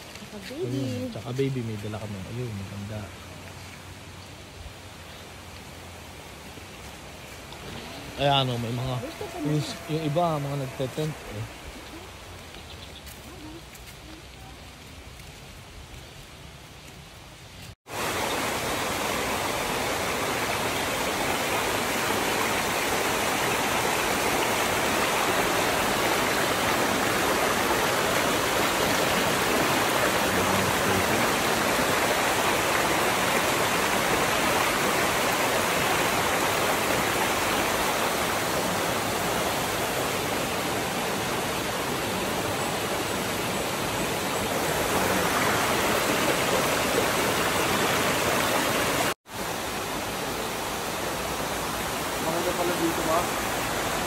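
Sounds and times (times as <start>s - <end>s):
river rushing over stones: 0.0s - 12.4s, 17.9s - 54.0s.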